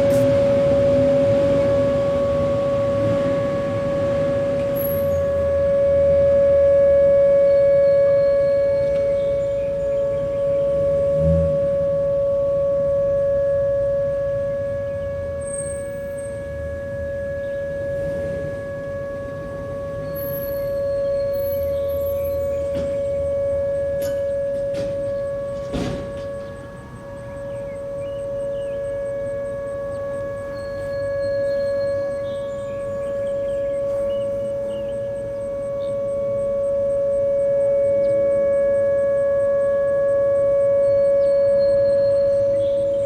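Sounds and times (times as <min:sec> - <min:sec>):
distant warning sirens: 0:00.0 - 0:43.0.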